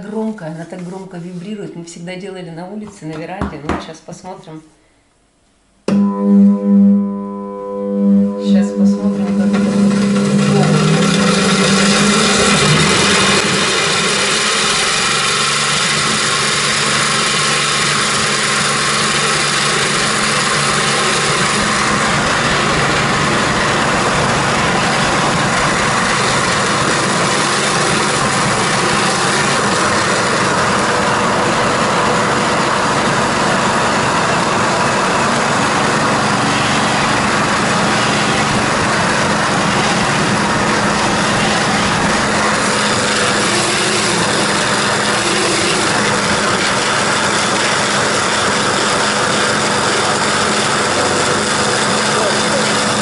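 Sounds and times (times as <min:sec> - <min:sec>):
electric juicer humming: 0:05.9 - 0:53.0.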